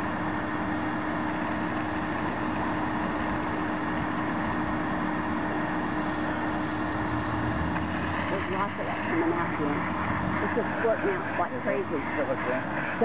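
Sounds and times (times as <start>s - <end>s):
cleaning machine motor running: 0.0s - 13.0s.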